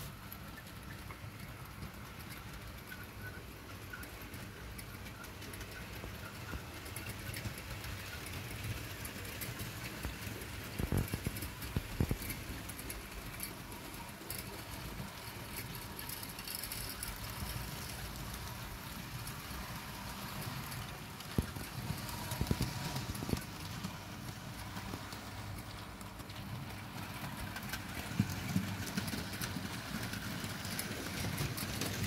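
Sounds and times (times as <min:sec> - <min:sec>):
model train rolling rumble: 0:00.0 - 0:32.0.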